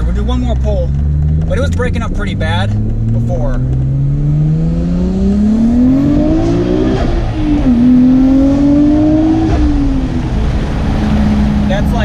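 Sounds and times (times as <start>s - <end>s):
turbo engine revving under load: 0.0s - 12.0s.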